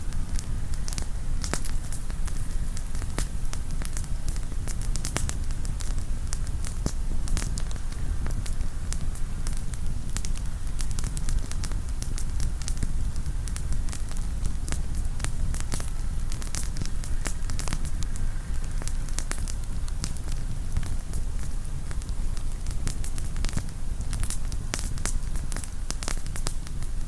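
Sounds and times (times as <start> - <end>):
campfire crackling: 0.0 - 27.0
steady low rumble: 0.0 - 27.0
sharp pops and snaps: 0.1 - 27.0.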